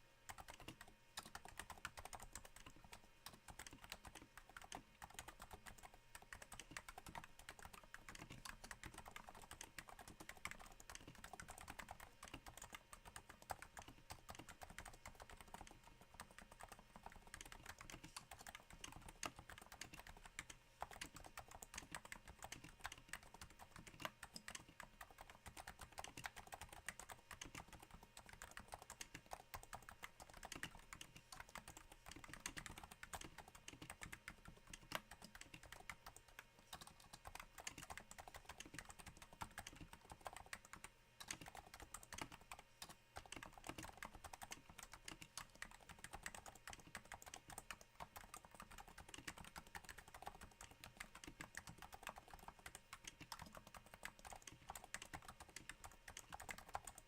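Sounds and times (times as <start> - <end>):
soft keyboard typing: 0.0 - 57.0.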